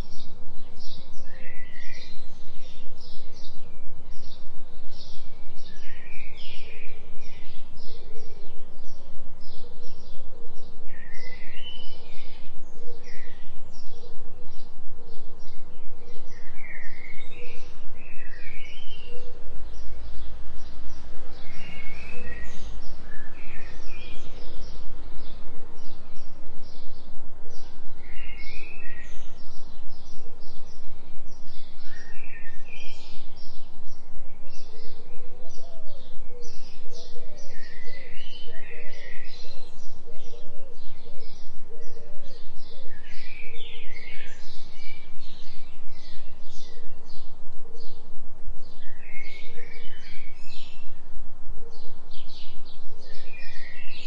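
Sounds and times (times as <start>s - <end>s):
forest birds chirping: 0.0s - 54.0s
low pulsing hum with tone: 0.0s - 54.0s.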